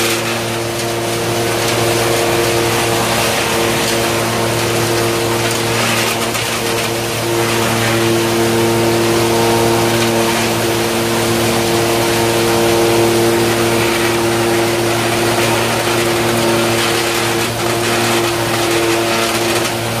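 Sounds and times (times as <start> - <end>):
sawdust machine whirring: 0.0 - 20.0.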